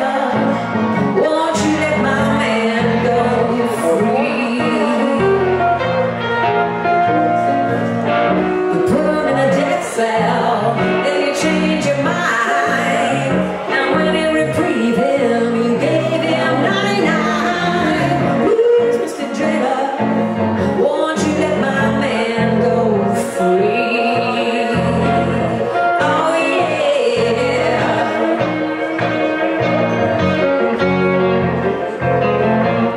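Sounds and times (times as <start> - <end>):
person singing: 0.0 - 30.9
electric guitar: 0.0 - 32.9
keyboard: 0.0 - 32.9.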